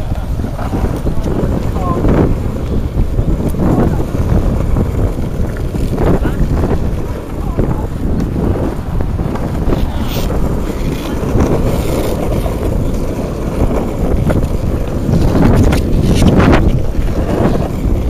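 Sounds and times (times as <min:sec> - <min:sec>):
longboard wheels rolling on asphalt: 0:00.0 - 0:18.0
wind buffeting microphone: 0:00.0 - 0:18.0.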